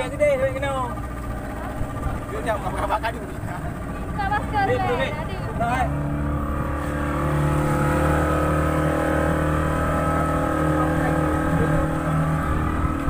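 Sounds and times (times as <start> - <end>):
outboard motor running: 0.0 - 13.0
water rushing under hull: 0.0 - 13.0.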